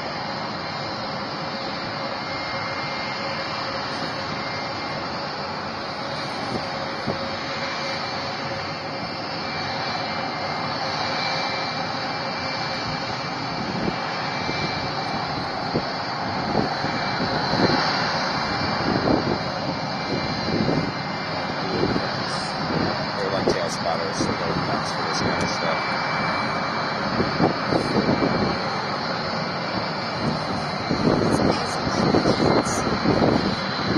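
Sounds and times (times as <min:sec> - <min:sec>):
jet engine roar with whine: 0:00.0 - 0:33.9.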